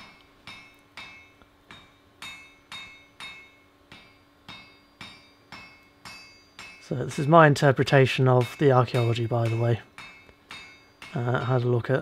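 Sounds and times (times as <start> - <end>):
hammer striking iron on anvil: 0.0 - 12.0.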